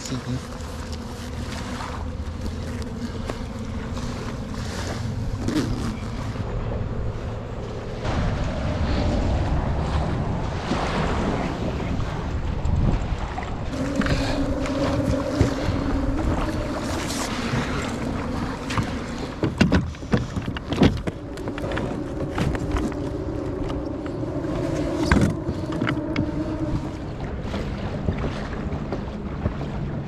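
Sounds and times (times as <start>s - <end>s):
paddle splashing in water: 0.0s - 6.7s, 8.0s - 30.0s
steady low hum: 0.0s - 30.0s
wind on microphone: 1.5s - 30.0s.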